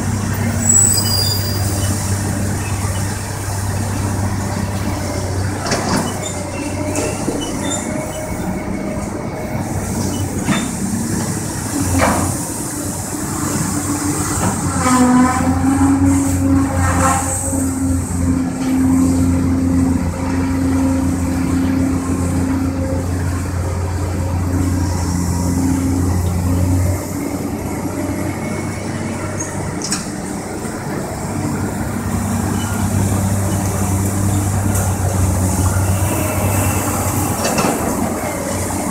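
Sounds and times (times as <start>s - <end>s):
diesel engines droning: 0.0s - 38.9s.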